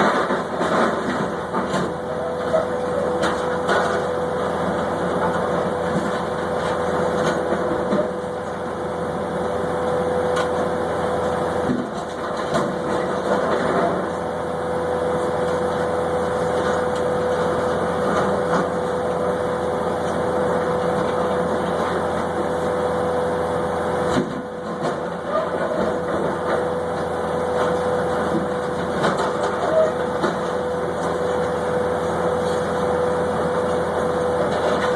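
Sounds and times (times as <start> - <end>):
engine noise: 0.0 - 34.9.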